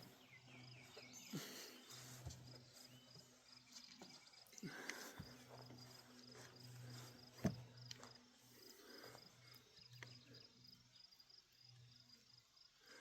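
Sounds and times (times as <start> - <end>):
faint insect chirping: 0.0 - 13.0
low steady hum: 0.0 - 13.0.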